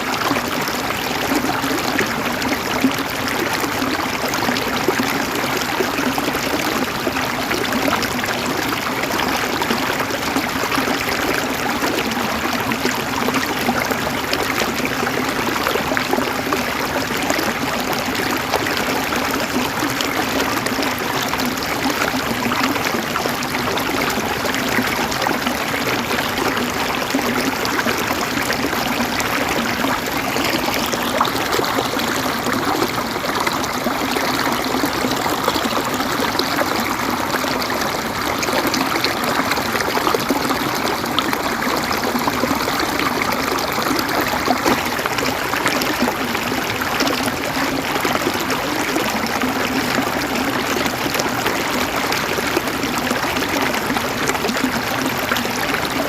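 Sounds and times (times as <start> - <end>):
river water gurgling over stones: 0.0 - 56.0.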